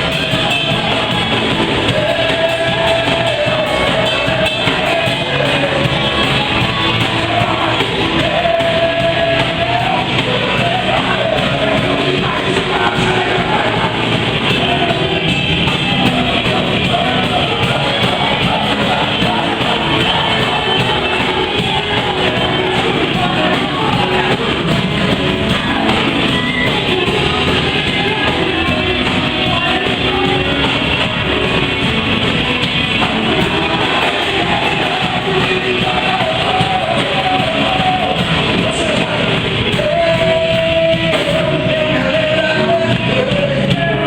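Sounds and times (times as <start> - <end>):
band playing upbeat music: 0.0 - 44.0
guitar: 0.0 - 44.0
voices singing: 0.0 - 44.0.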